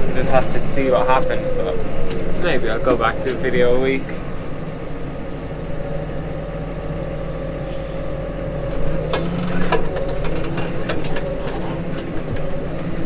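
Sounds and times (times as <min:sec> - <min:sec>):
tractor engine running under load: 0:00.0 - 0:13.0.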